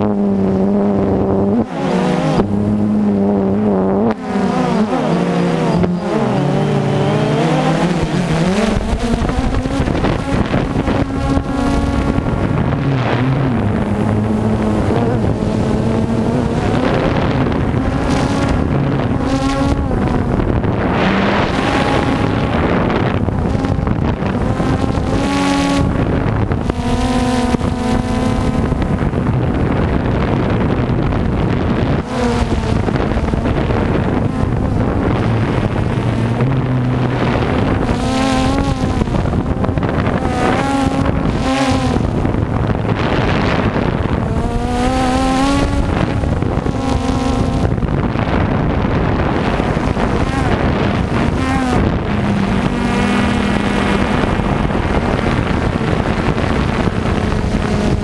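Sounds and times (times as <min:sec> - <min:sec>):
drone propellers buzzing: 0:00.0 - 0:58.0
wind noise: 0:00.0 - 0:58.0.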